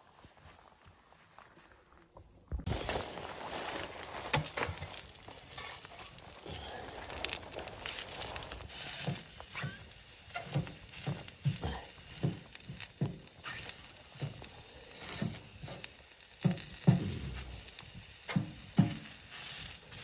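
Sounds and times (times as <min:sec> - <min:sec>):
food sizzling in a pan: 0:02.7 - 0:20.0.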